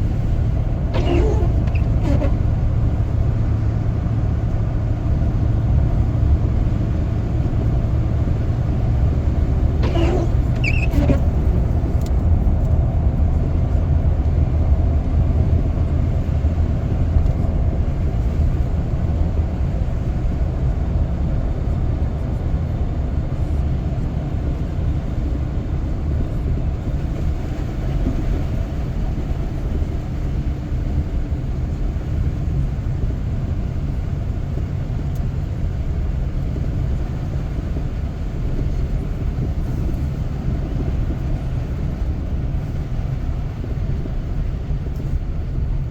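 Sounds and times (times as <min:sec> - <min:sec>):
car driving rumble inside cabin: 0:00.0 - 0:45.9.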